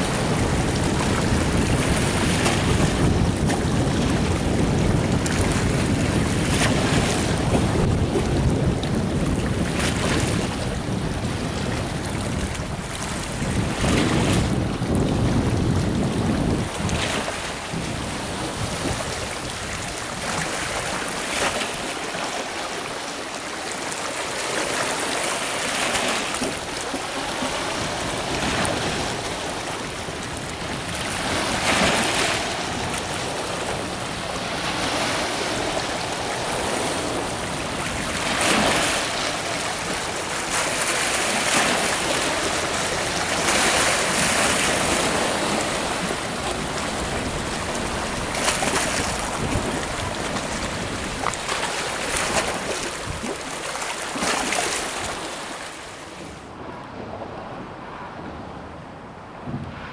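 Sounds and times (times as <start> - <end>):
sea waves washing onto shore: 0.0 - 56.5.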